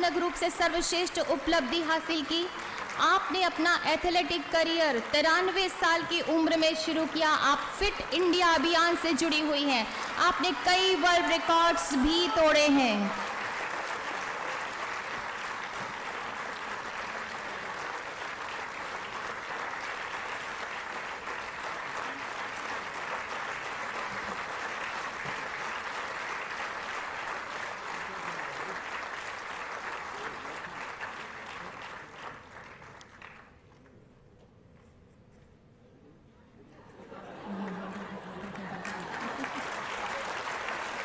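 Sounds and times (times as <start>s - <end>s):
large audience applauding: 0.0s - 33.6s, 37.2s - 41.0s.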